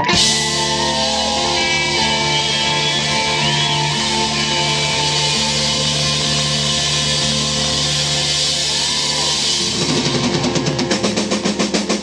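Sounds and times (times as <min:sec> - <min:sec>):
cymbals crashing: 0:00.0 - 0:12.0
electric guitar and bass ringing: 0:00.0 - 0:12.0
fast drum roll: 0:00.0 - 0:12.0.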